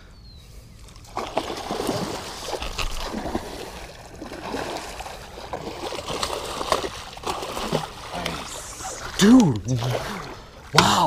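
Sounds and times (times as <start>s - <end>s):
fish thrashing and splashing: 0.9s - 10.6s.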